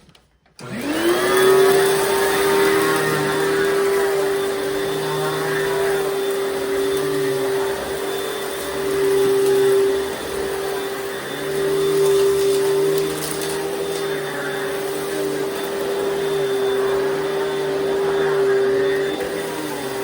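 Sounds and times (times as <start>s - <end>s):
vacuum cleaner running: 0.6s - 20.0s.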